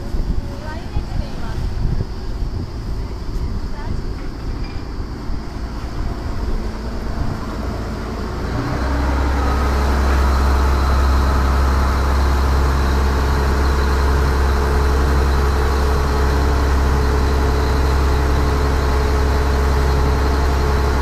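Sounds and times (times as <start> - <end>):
boat diesel engine running: 0.0 - 21.0.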